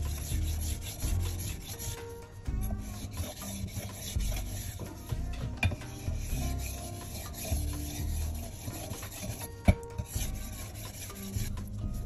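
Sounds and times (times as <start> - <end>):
knife grinding on whetstone: 0.0 - 12.0.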